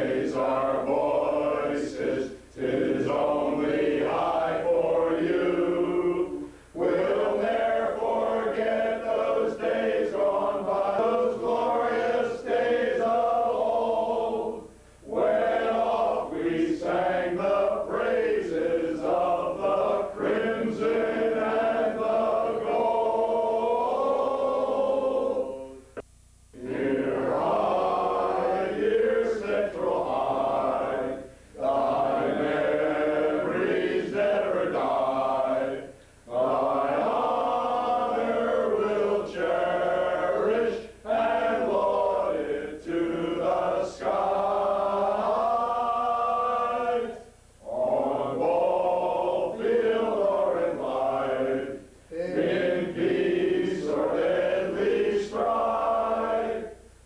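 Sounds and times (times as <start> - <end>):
men singing together: 0.0 - 25.8, 26.6 - 56.8.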